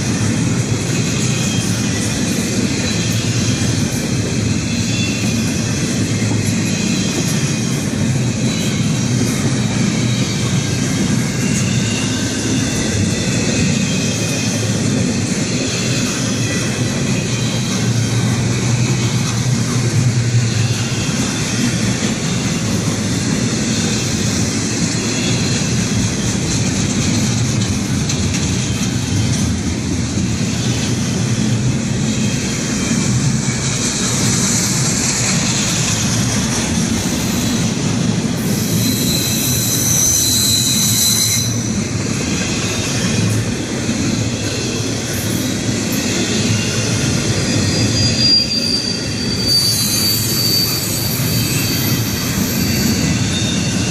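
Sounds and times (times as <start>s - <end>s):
freight train cars rumbling past: 0.0s - 53.9s
steel wheel squeal: 0.1s - 18.4s, 20.4s - 29.5s, 32.0s - 43.4s, 44.2s - 53.9s.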